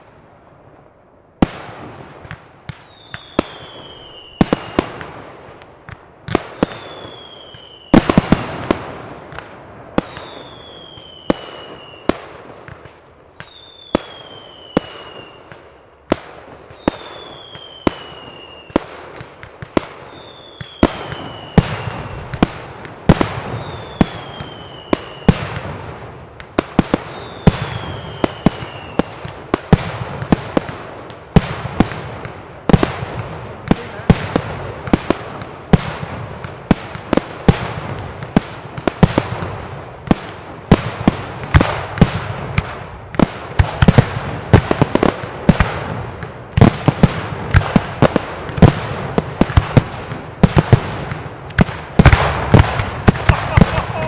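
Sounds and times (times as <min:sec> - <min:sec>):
firework crackle: 0:00.0 - 0:54.0
firework bursts banging: 0:01.4 - 0:54.0.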